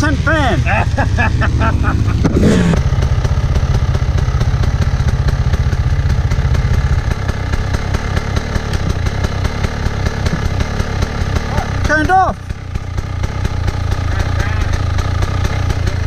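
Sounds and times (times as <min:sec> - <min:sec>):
dirt bike engines idling: 0:00.0 - 0:16.0.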